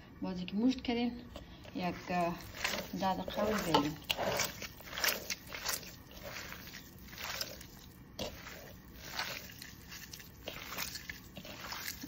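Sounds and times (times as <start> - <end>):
hand squishing minced meat: 1.6 - 12.0.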